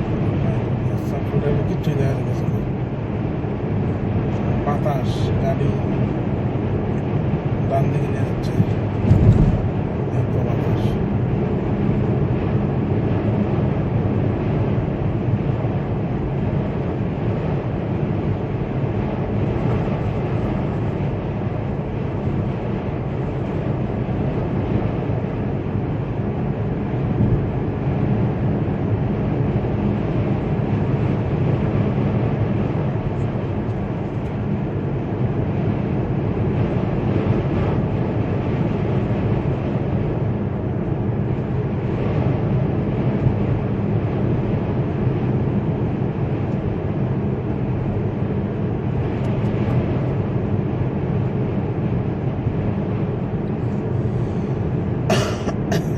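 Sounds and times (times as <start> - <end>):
road noise inside car: 0.0 - 55.9.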